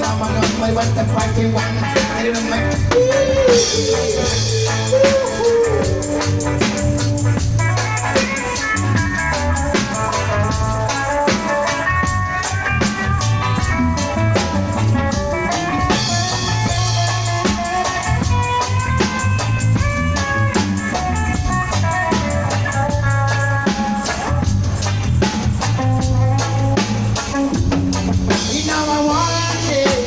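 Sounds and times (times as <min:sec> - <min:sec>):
prominent bass: 0:00.0 - 0:30.0
reggae band playing: 0:00.0 - 0:30.0.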